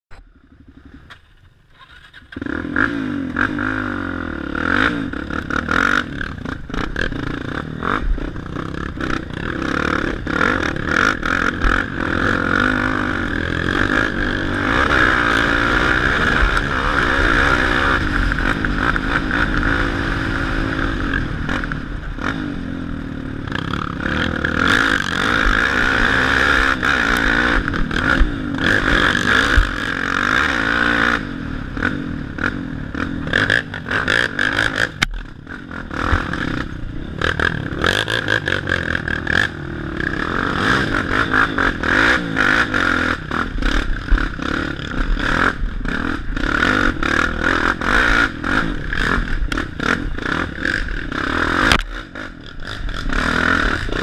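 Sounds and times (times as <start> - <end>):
atv engine running: 0.1 - 54.0
knocks and clatter over rough trail: 0.1 - 54.0.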